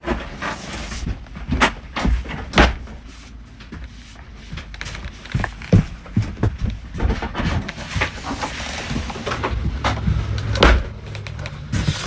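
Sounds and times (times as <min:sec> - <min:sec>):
steady low hum: 0:01.0 - 0:12.0.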